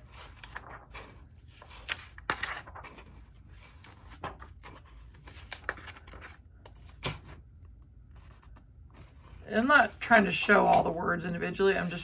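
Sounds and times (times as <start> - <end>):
paper pages turning: 0.0 - 11.0.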